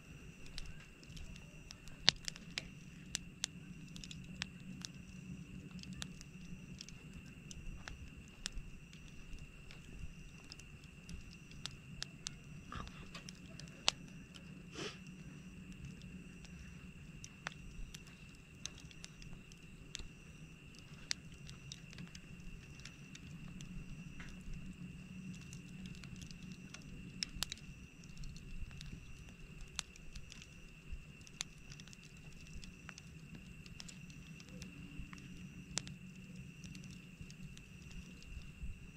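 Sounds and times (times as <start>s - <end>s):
campfire crackling: 0.0s - 38.9s
low background rumble: 0.0s - 38.9s.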